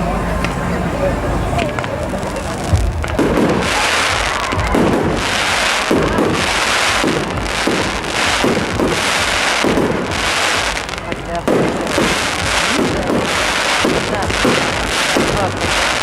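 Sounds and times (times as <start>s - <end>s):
fireworks crackling and popping: 0.3s - 16.0s.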